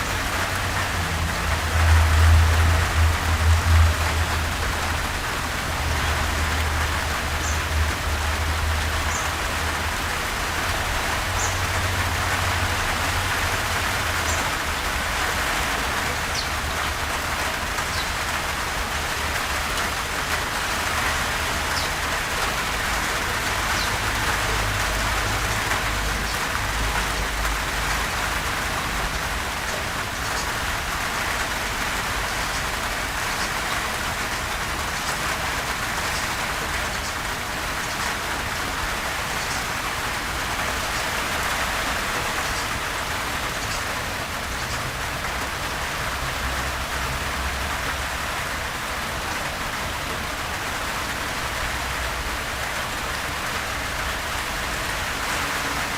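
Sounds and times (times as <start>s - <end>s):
steady gentle rain: 0.0s - 55.9s.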